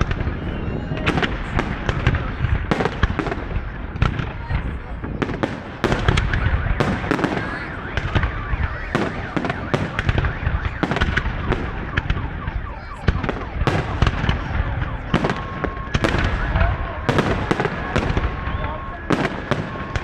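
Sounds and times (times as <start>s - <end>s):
fireworks bangs and crackles: 0.0s - 20.0s
rumble of firework bursts: 0.0s - 20.0s.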